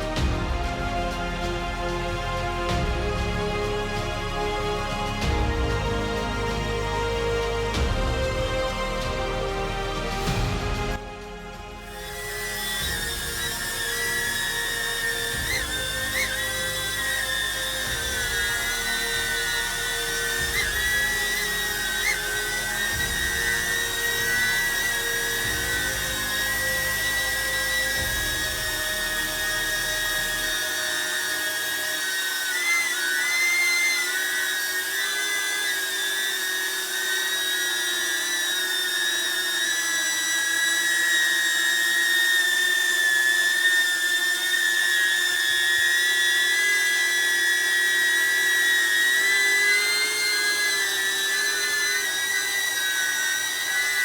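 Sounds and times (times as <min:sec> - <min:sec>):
drone propeller whine: 0:00.0 - 0:54.0.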